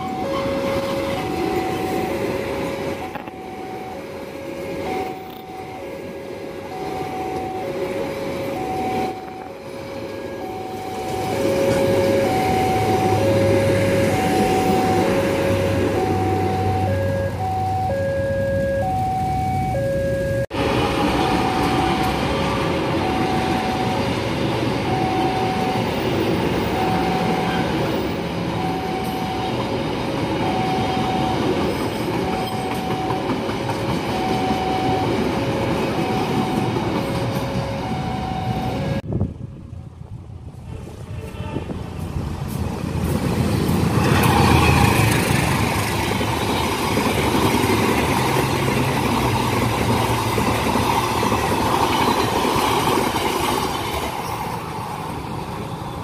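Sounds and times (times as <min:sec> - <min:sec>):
train rumbling over rails: 0:00.0 - 0:17.9, 0:20.5 - 0:56.0.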